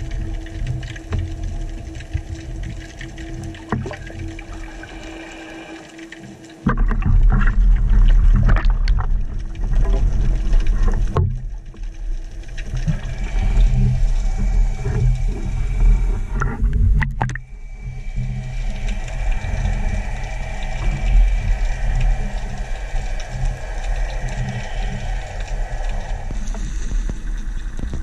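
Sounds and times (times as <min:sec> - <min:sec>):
low underwater rumble: 0:00.0 - 0:28.0.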